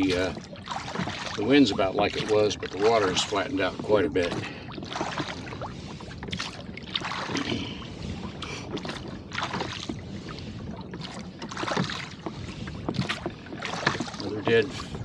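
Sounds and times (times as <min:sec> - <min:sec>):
oar splashes: 0:00.0 - 0:15.0
water sloshing around a rowboat: 0:00.0 - 0:15.0.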